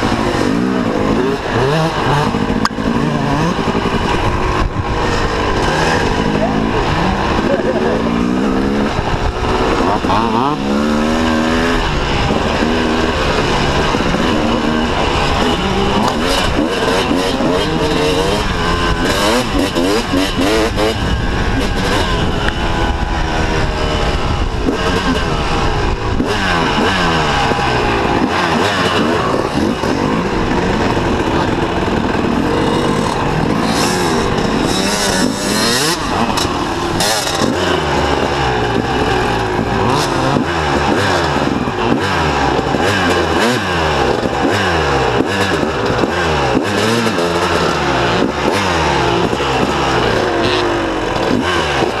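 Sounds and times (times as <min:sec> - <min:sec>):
two-stroke motorcycle engine revving: 0:00.0 - 0:52.0.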